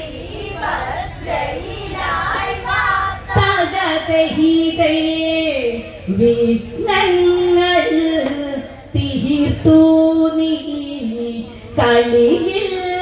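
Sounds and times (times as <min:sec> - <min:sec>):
women singing: 0:00.0 - 0:13.0.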